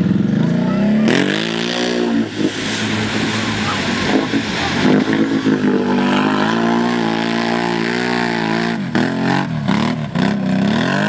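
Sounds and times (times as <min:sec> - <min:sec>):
atv engine running hard: 0:00.0 - 0:11.0.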